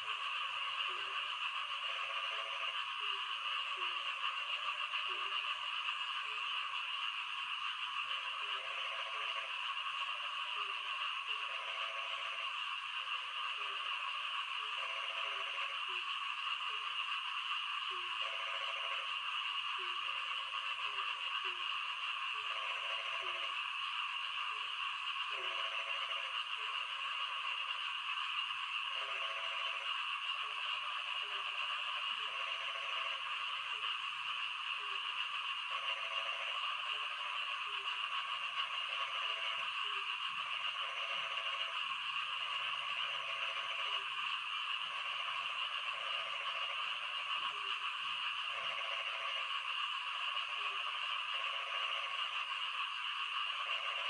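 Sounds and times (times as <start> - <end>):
frogs croaking: 0.0 - 54.0.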